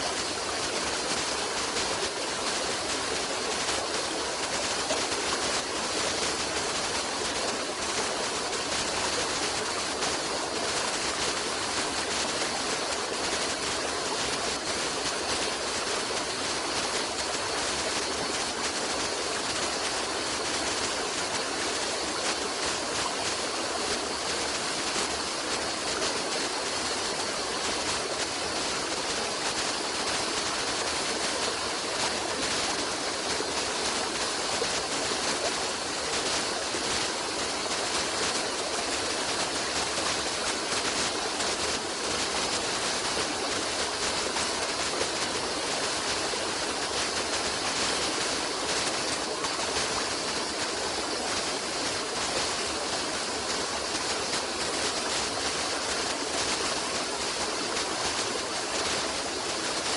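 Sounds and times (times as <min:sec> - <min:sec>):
stream running water: 0:00.0 - 0:59.9.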